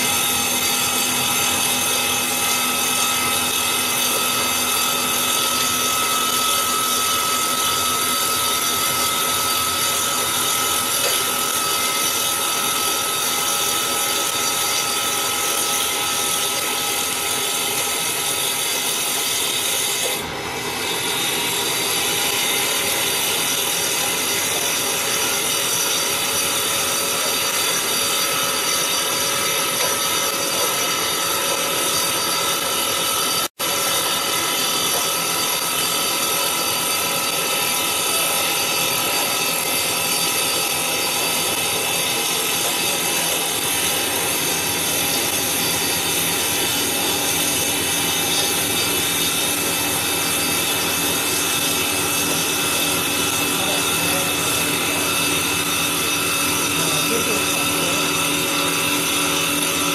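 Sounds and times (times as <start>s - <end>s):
circular saw cutting wood: 0.0s - 59.9s
motor and blade hum: 0.0s - 59.9s.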